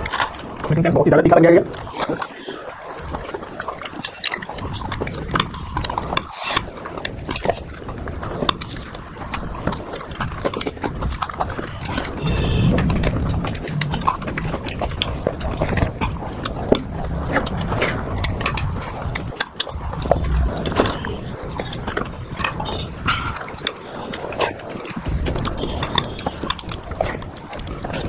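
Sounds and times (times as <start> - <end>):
mouth clicks: 1.7 - 7.6, 9.3 - 28.0
wet chewing and lip smacking: 1.7 - 28.0.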